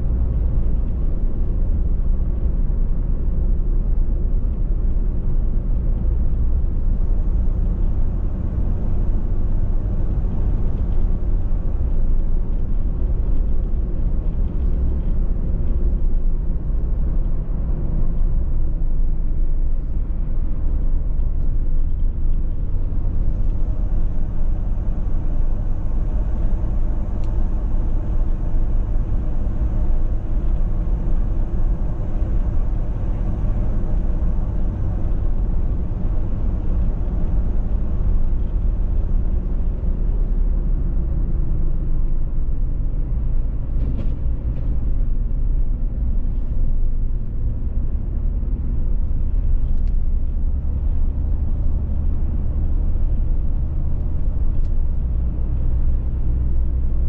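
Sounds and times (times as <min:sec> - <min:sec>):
car road and tyre rumble: 0:00.0 - 0:57.0.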